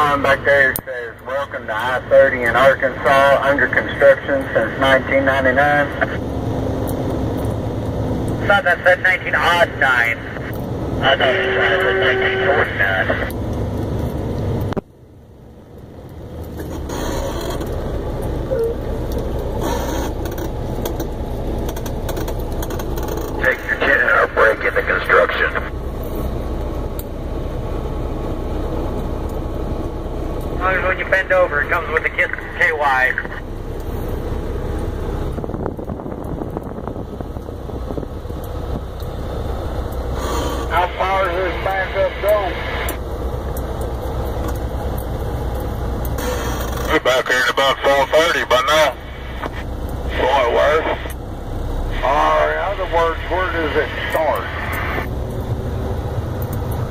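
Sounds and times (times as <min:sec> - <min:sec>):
road noise: 0:00.0 - 0:56.9
truck engine rumbling: 0:00.0 - 0:56.9.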